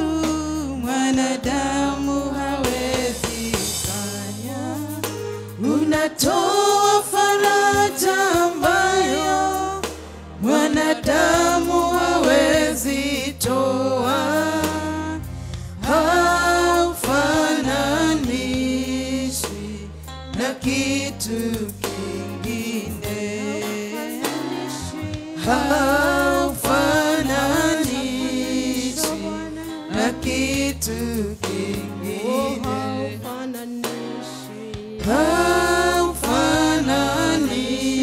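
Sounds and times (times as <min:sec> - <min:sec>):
woman singing into microphone: 0:00.0 - 0:15.2, 0:20.4 - 0:38.0
bass notes: 0:00.0 - 0:33.4, 0:34.8 - 0:38.0.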